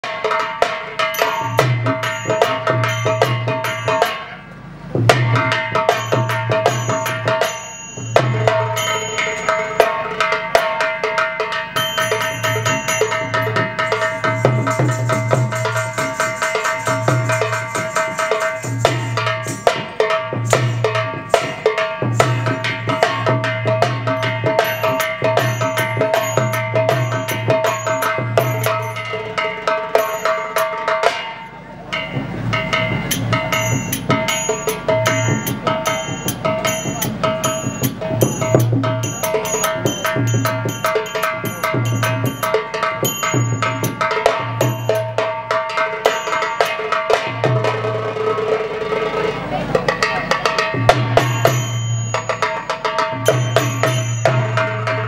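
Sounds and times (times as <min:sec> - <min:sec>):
hand cymbals ringing: 0:00.0 - 0:48.5, 0:50.0 - 0:55.0
drum beaten with a stick: 0:00.0 - 0:55.0.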